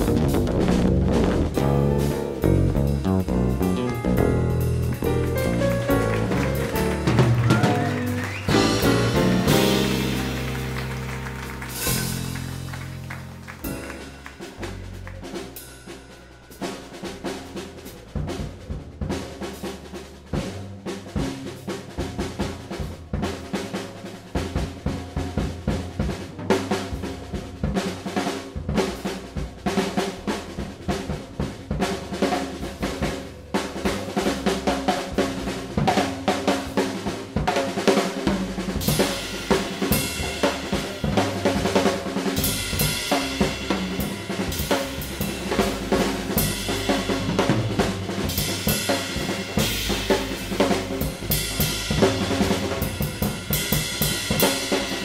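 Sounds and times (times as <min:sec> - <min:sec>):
cymbals: 0:00.0 - 0:25.4, 0:26.7 - 0:55.0
drum-kit beat: 0:00.0 - 0:55.0.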